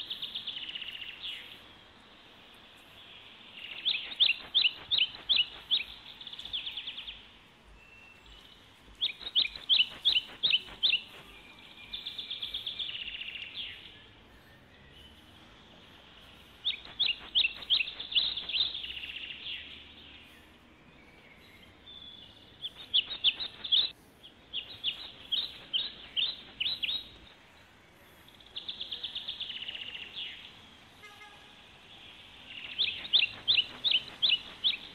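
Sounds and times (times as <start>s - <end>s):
songbird chirping and trilling: 0.0s - 30.9s, 31.8s - 34.9s
faint low background noise: 0.0s - 34.9s.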